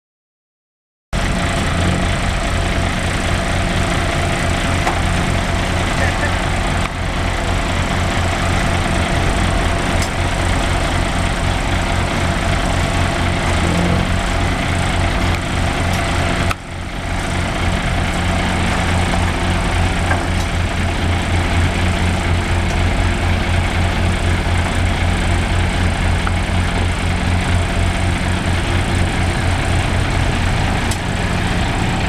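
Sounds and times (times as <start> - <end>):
diesel engine idling: 1.2 - 32.0.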